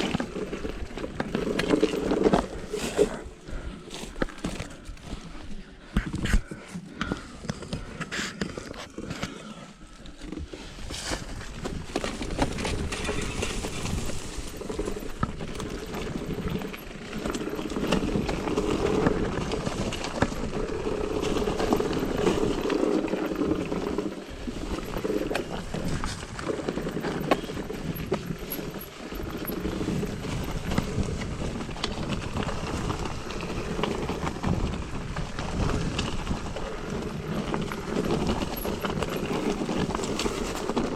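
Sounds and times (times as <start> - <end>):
bike clattering and rattling: 0.0 - 40.9
bike tyres rushing on trail: 0.0 - 40.9.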